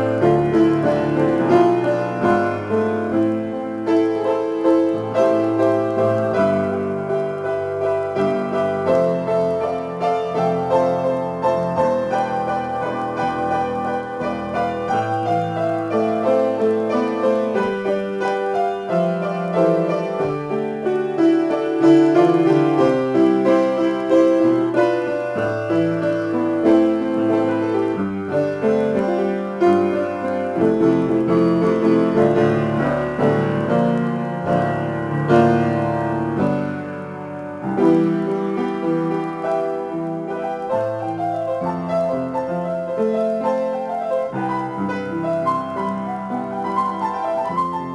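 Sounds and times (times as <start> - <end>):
upright piano playing: 0.0 - 47.9.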